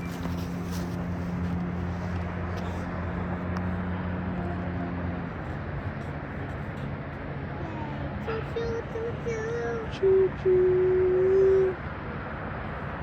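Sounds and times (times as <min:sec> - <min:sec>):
large engine droning: 0:00.0 - 0:13.0
outdoor vehicle rumble: 0:00.0 - 0:13.0.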